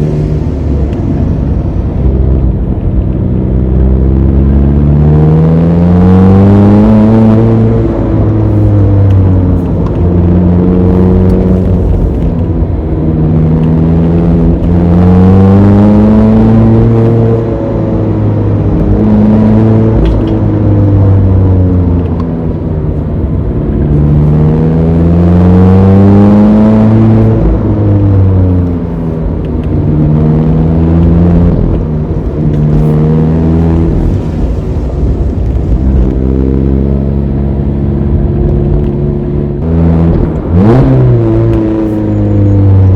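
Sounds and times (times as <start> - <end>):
car engine revving under load: 0.0 - 42.9.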